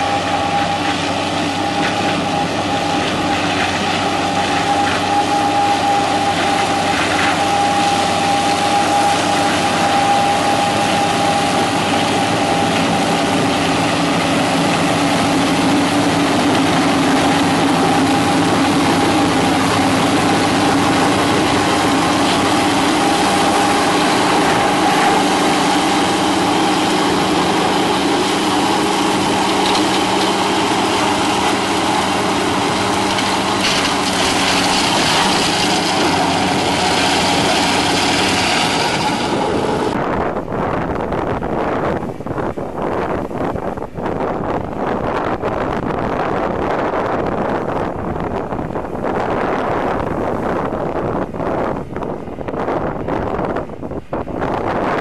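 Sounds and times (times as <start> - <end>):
high mower whine: 0.0 - 55.0
tractor engine running: 0.0 - 55.0.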